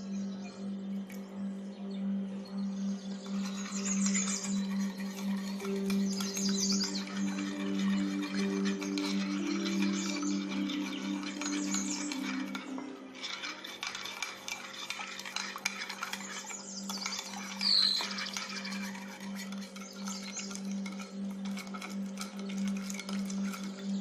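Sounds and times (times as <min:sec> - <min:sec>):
steady low hum: 0:00.0 - 0:24.0
spoon scraping in mixing bowl: 0:03.2 - 0:24.0.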